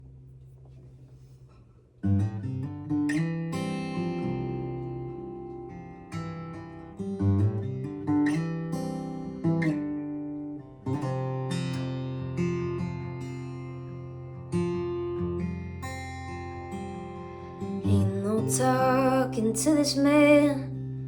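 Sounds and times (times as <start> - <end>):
acoustic guitar chords: 2.0 - 21.0.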